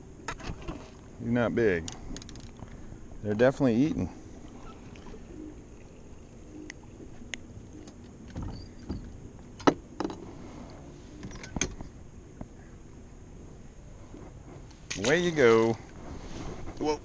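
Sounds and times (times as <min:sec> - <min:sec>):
water: 0:00.0 - 0:17.0
wind: 0:00.0 - 0:17.0.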